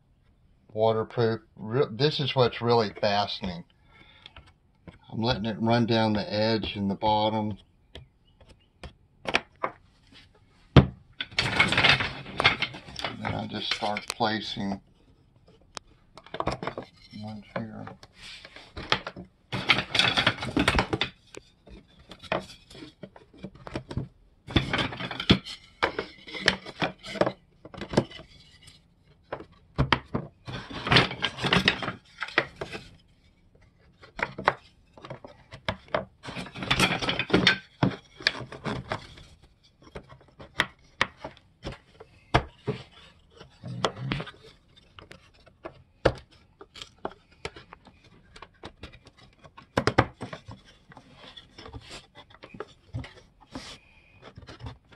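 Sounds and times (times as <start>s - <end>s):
wooden frames clattering: 9.2s - 54.9s.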